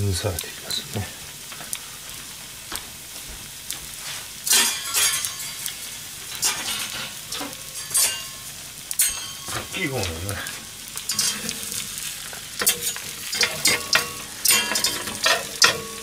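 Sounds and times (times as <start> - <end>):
pork and cabbage sizzling: 0.0 - 16.0
pork fat spitting crackles: 0.0 - 16.0.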